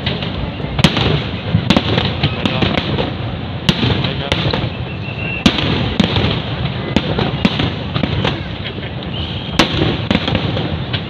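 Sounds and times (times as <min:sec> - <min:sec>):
firework bangs: 0:00.0 - 0:11.0
fireworks crackling: 0:00.0 - 0:11.0.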